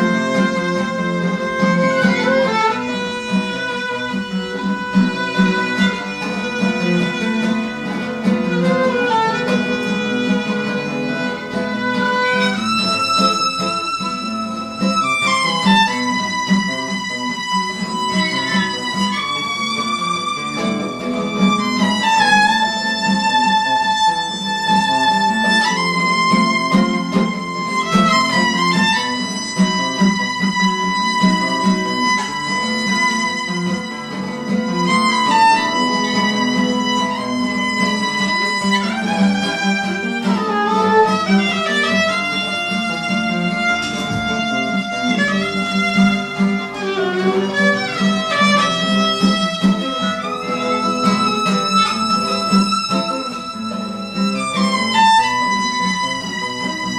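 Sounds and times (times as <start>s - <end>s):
steady instrumental accompaniment: 0.0s - 56.9s.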